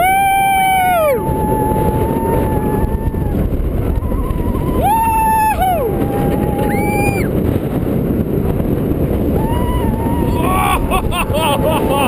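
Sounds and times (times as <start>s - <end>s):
rider whooping: 0.0s - 7.4s, 9.3s - 12.0s
roller coaster train rumbling: 0.0s - 12.0s.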